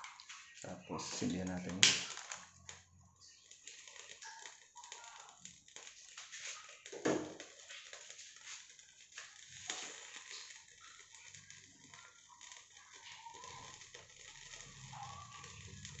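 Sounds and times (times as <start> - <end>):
faint crackling of burning cotton: 0.0 - 16.0.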